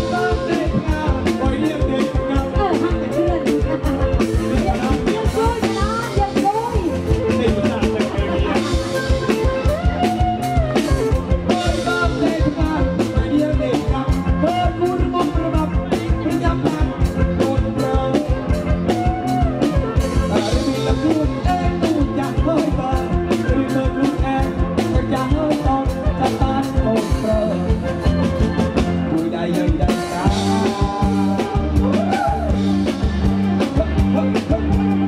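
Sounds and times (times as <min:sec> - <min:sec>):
drum kit beat: 0:00.0 - 0:35.0
live band music: 0:00.0 - 0:35.0.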